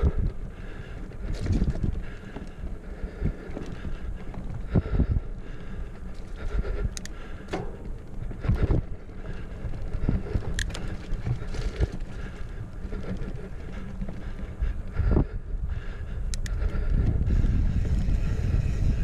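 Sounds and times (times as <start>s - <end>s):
tyres rolling on dirt: 0.0s - 15.3s
bike clicks and rattles: 0.0s - 19.0s
wind buffeting microphone: 0.0s - 19.0s.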